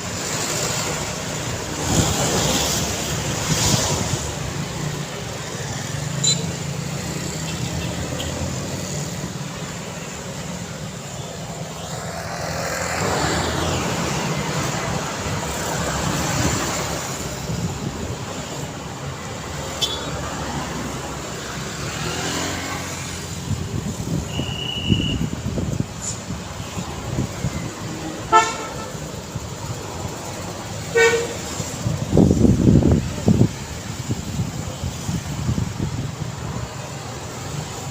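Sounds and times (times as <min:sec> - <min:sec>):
vehicles passing by: 0:00.0 - 0:37.9.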